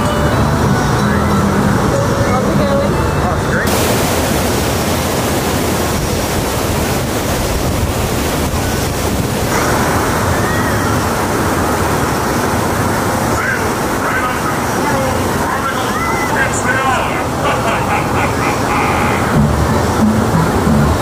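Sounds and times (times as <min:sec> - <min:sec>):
loud rushing noise: 0:03.6 - 0:21.0.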